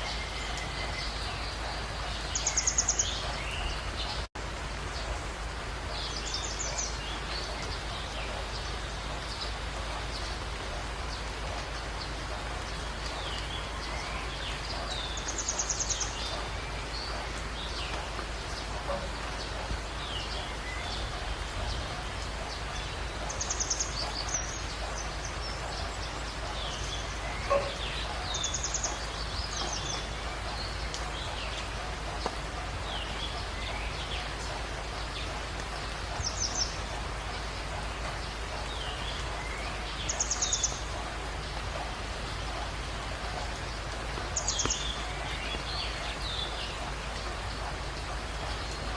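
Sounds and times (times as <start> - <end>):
rain hiss: 0.0 - 48.9.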